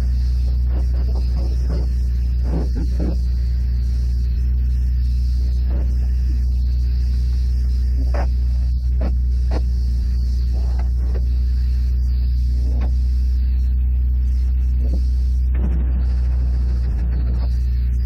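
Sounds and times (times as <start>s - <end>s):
spray foam equipment droning: 0.0s - 18.0s.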